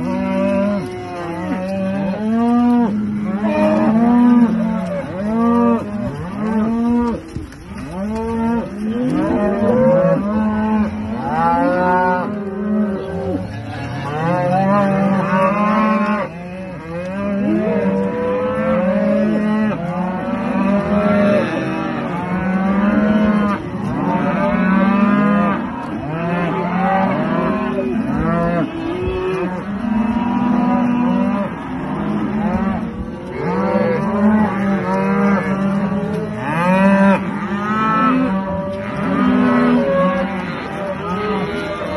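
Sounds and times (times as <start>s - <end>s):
cattle mooing: 0.0s - 41.9s.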